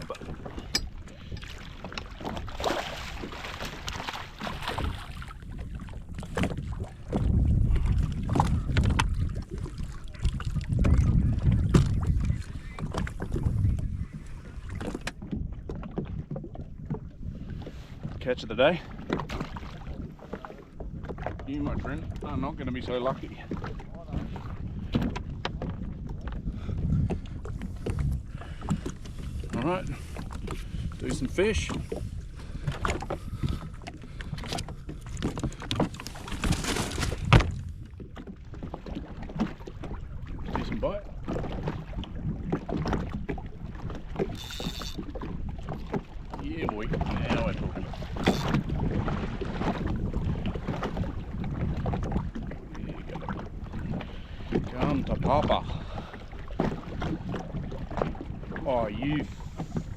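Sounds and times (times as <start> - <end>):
water against hull: 0.0 - 59.9
wind rumbling on microphone: 0.0 - 59.9.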